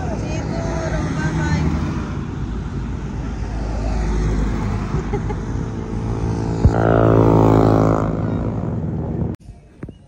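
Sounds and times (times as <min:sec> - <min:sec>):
vehicle engine passing: 0:00.0 - 0:09.4
road traffic rumble: 0:00.0 - 0:09.8.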